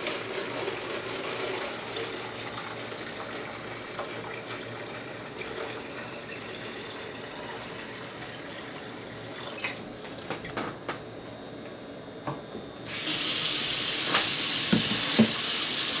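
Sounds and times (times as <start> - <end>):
tap water running into sink: 0.0 - 9.8, 12.9 - 16.0.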